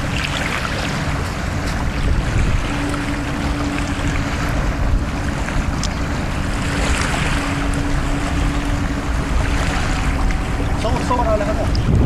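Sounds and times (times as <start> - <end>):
surf washing on shore: 0.0 - 12.0
wind buffeting microphone: 0.0 - 12.0.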